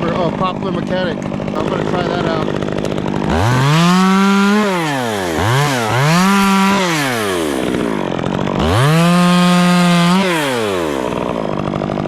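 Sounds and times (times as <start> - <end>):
chainsaw revving and idling: 0.0 - 12.0.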